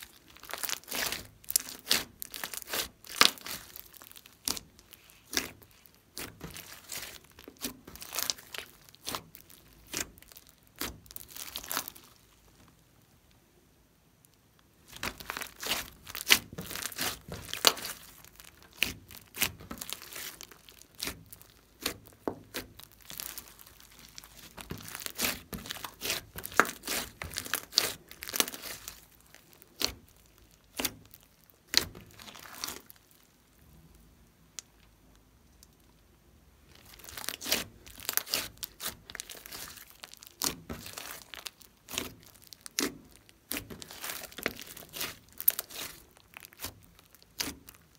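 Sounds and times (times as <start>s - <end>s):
slime crackling and popping: 0.0s - 13.2s, 14.2s - 36.0s, 36.6s - 47.9s.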